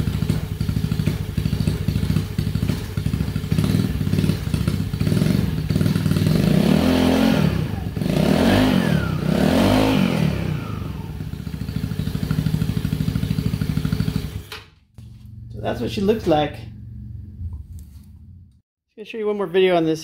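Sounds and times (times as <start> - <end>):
scooter engine idling and revving: 0.0 - 17.6.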